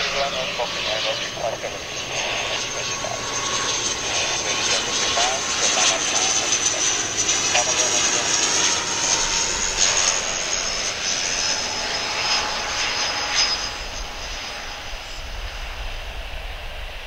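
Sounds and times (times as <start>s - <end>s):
airliner engines whining: 0.0s - 17.0s.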